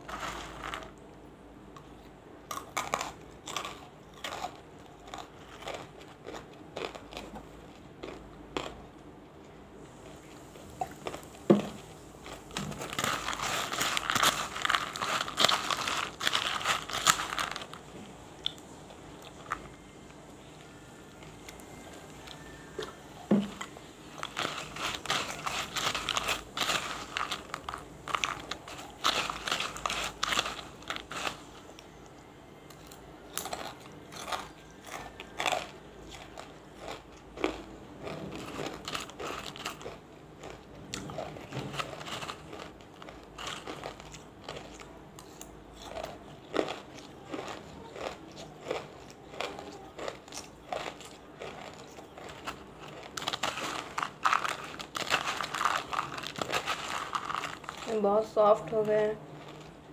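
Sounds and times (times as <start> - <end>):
crunching and chewing food: 0.0 - 59.9.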